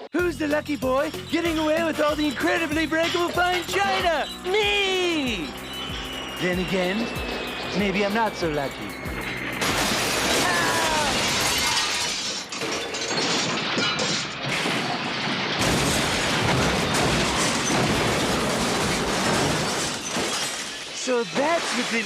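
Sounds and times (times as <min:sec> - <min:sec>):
china shattering: 0:00.9 - 0:22.0.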